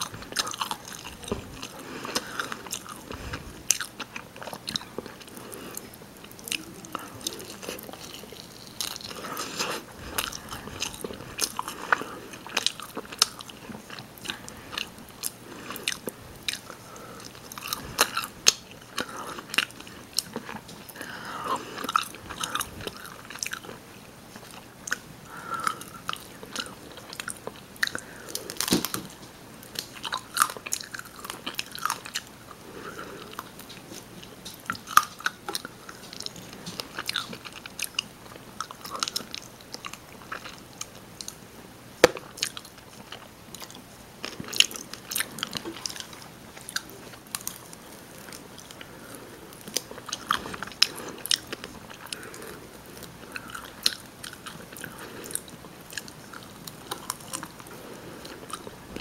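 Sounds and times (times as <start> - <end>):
chewing and biting chicken: 0.0 - 41.4, 42.0 - 59.0.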